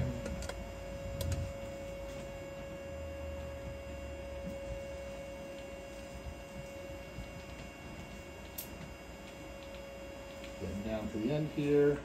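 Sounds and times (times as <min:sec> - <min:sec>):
laser generator steady tone: 0:00.0 - 0:12.0.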